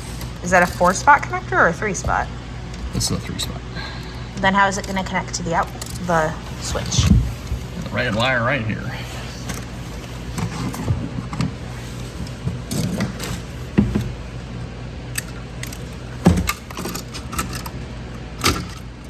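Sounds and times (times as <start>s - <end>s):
hands handling wires and connectors: 0.0s - 8.4s, 9.3s - 19.0s
steady low hum: 0.0s - 19.0s.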